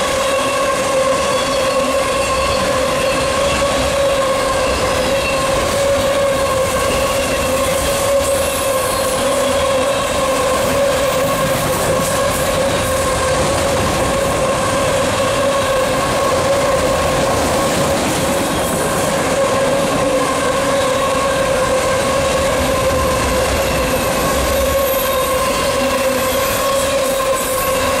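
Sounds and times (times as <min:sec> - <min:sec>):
freight train rolling past: 0:00.0 - 0:28.0
train wheels squealing on rails: 0:00.0 - 0:28.0.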